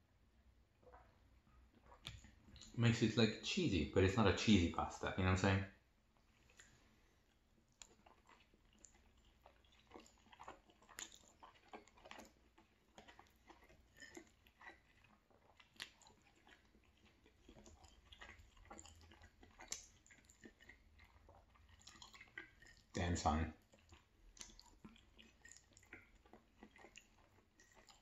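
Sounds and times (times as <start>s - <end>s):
faint chewing mouth smacks: 0.8s - 2.8s, 6.2s - 28.0s.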